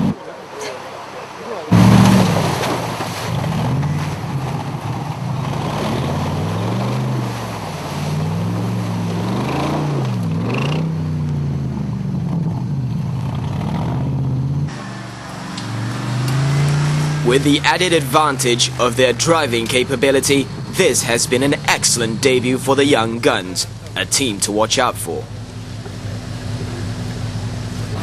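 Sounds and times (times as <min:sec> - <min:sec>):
engine revving: 0:01.7 - 0:28.0.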